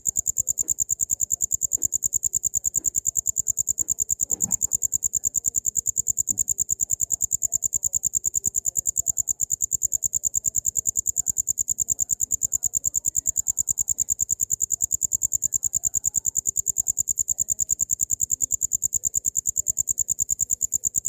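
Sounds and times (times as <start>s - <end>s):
cricket chirping trill: 0.0s - 21.0s.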